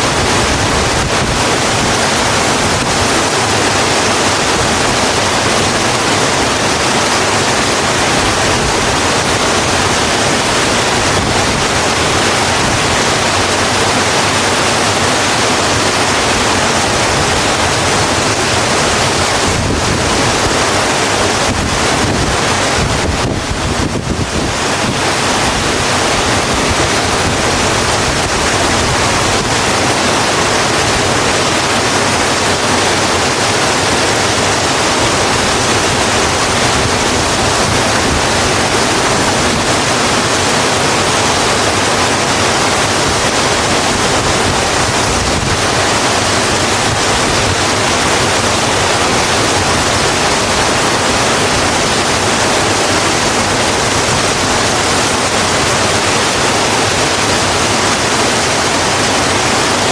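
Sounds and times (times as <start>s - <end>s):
rain falling on a road: 0.1s - 59.9s.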